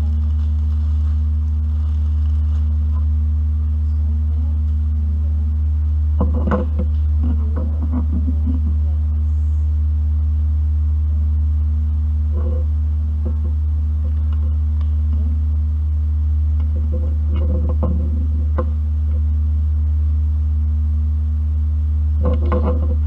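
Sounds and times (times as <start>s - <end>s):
loud low hum: 0.0s - 23.0s.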